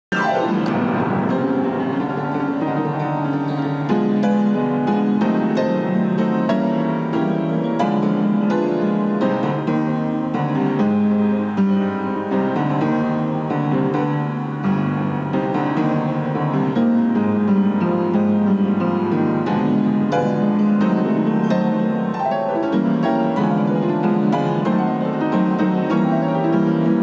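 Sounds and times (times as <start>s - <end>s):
piano playing quick notes: 0.0s - 27.0s.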